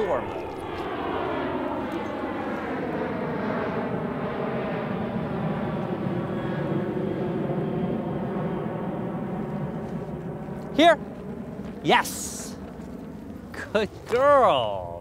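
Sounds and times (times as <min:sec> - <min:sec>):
jet airplane flying overhead: 0:00.0 - 0:15.0.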